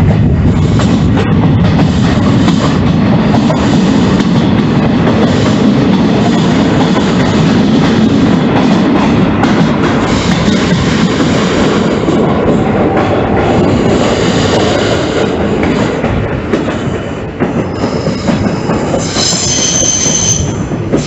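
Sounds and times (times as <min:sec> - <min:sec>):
train coach rumbling and rattling: 0:00.0 - 0:21.0.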